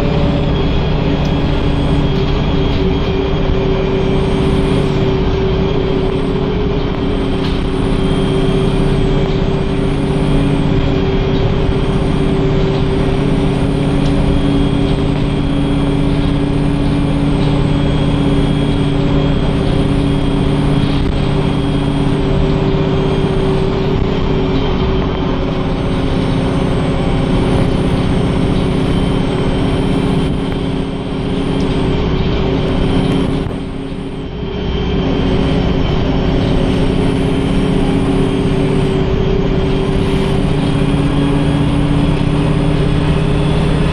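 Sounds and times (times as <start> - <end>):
bus diesel engine drone: 0.0 - 43.9
road noise: 0.0 - 43.9.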